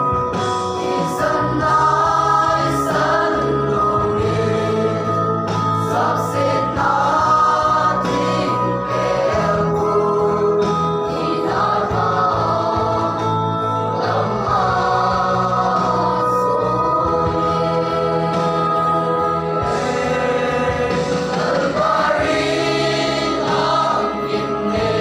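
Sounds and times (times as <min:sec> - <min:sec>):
low held accompaniment: 0:00.0 - 0:25.0
youth choir singing a hymn: 0:00.0 - 0:25.0.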